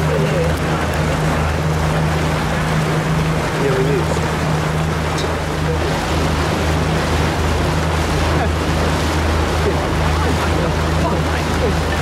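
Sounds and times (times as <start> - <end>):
boat engine humming: 0.0 - 12.0
rushing water: 0.0 - 12.0
wind: 0.0 - 12.0.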